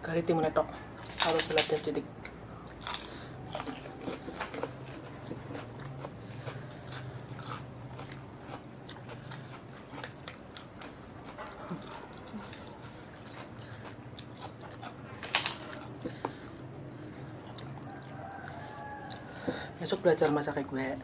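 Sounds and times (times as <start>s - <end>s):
chewing crisp cucumber: 1.0s - 19.3s.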